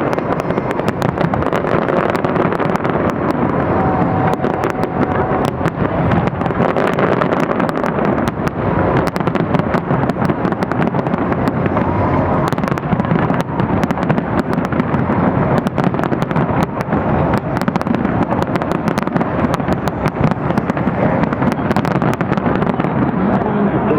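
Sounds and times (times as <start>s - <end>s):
fireworks bangs and crackles: 0.0s - 23.9s
steady rumble: 0.0s - 23.9s.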